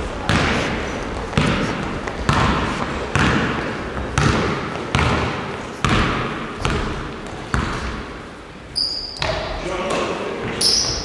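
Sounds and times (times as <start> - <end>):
basketball bouncing on gym floor: 0.0 - 8.2, 8.9 - 9.6, 10.4 - 11.0.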